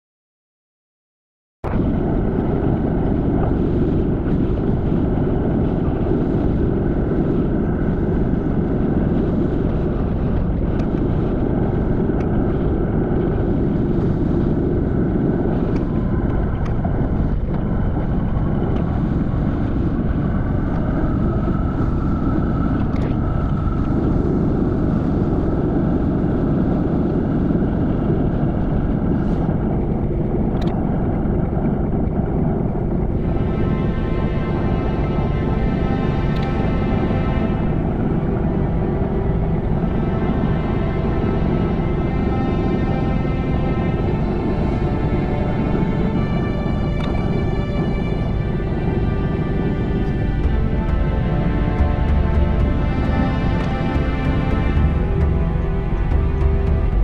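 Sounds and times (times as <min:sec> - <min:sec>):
wind buffeting microphone: 0:01.6 - 0:57.0.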